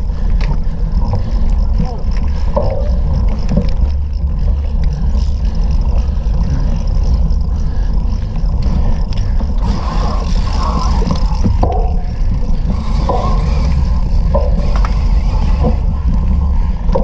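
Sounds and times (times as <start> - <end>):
heavy wind rumble on microphone: 0.0 - 17.0.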